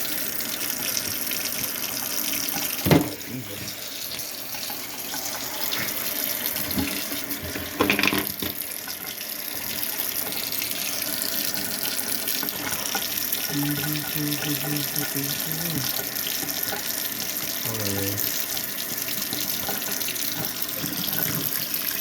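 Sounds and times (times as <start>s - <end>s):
tap water running into sink: 0.0s - 22.0s.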